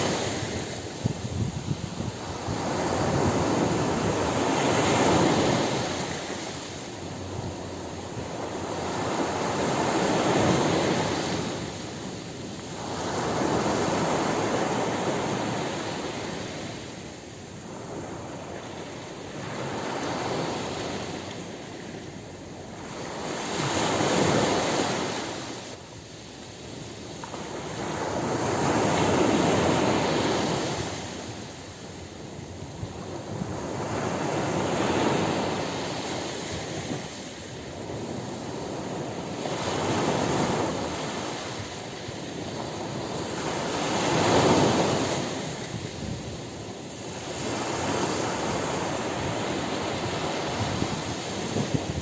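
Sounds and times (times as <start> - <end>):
ocean waves breaking on beach: 0.0 - 52.0.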